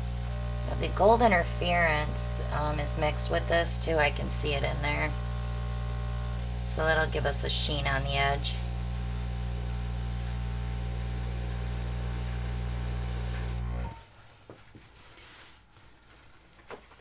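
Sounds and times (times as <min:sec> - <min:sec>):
airbrush air hiss: 0:00.0 - 0:13.6
compressor motor hum: 0:00.0 - 0:14.0.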